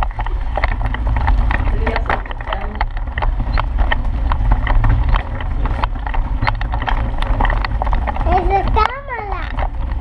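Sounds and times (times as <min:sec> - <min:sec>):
clicks and rattles: 0:00.0 - 0:10.0
tricycle wheels rumbling: 0:00.0 - 0:10.0.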